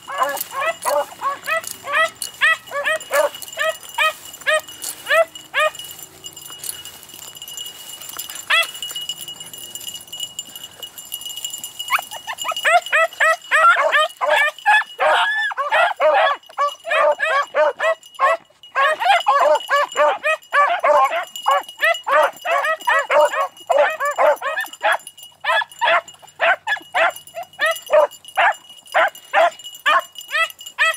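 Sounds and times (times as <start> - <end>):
dogs baying: 0.0 - 30.9.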